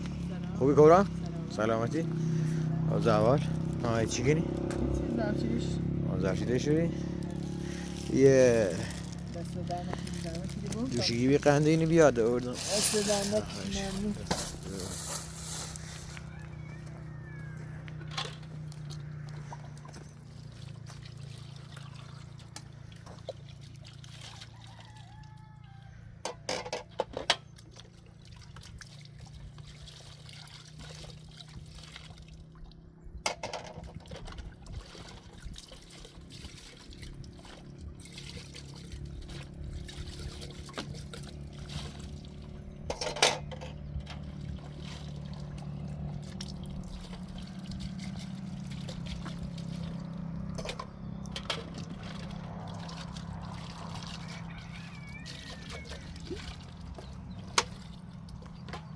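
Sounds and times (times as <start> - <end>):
water pouring and trickling: 0.0 - 16.4, 17.7 - 58.9.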